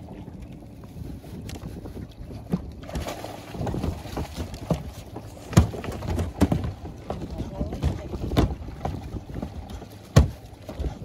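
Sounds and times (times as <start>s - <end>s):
water slapping boat hull: 0.0s - 11.0s
wind buffeting microphone: 0.0s - 11.0s.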